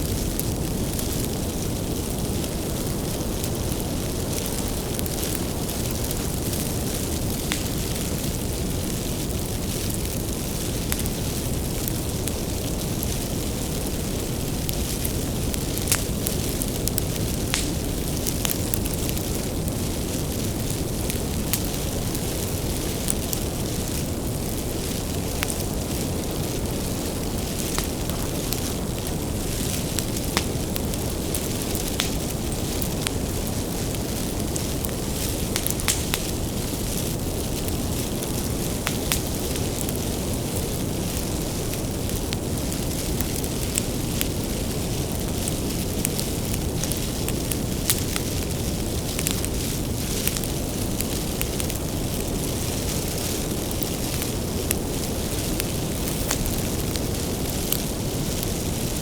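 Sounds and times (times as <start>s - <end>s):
fire crackling and popping: 0.0s - 59.0s
fire rumbling: 0.0s - 59.0s.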